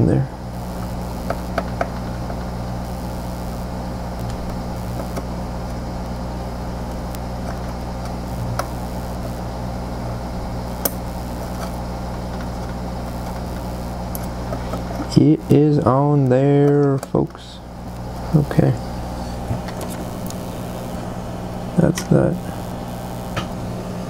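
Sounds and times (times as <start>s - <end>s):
hot air blower humming: 0.0s - 24.0s.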